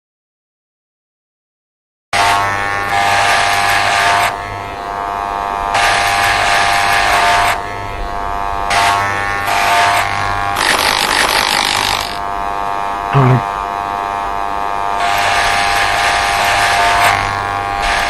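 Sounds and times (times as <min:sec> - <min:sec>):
electric hair clippers buzzing: 0:02.2 - 0:18.0.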